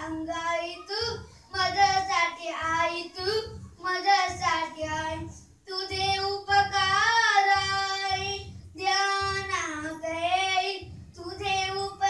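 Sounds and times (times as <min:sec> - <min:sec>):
boy singing: 0:00.0 - 0:12.0.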